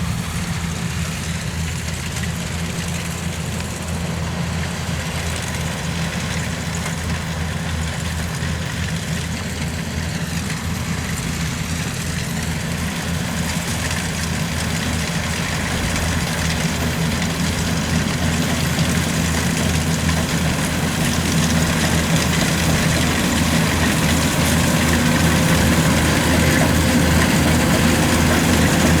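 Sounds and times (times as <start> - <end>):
combine harvester engine humming: 0.0 - 29.0.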